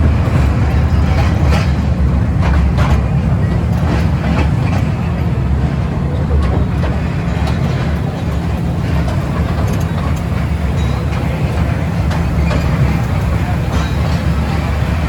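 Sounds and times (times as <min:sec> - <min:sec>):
toy train rumbling on track: 0:00.0 - 0:15.0.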